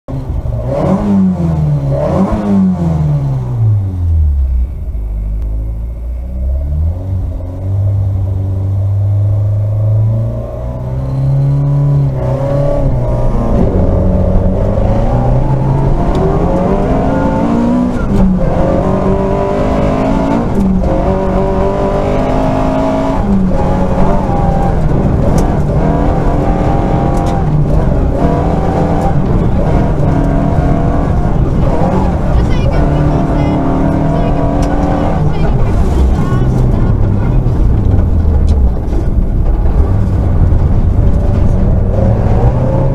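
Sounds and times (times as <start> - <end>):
rally car engine revving: 0.1 - 42.9.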